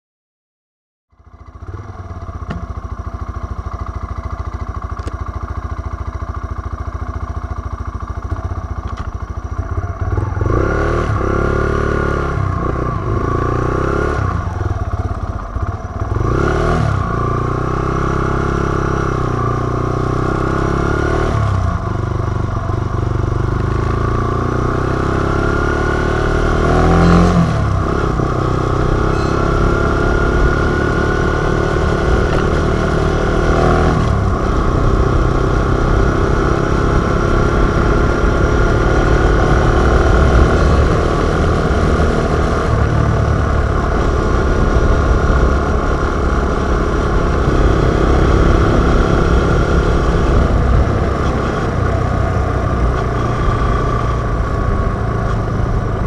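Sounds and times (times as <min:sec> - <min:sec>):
motorcycle engine revving: 0:01.1 - 0:56.0.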